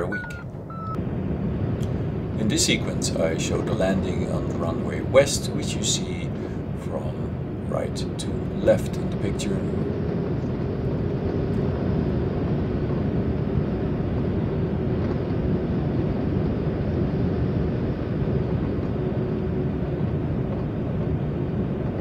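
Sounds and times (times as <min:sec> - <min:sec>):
air rushing past glider cockpit: 0:00.0 - 0:22.0.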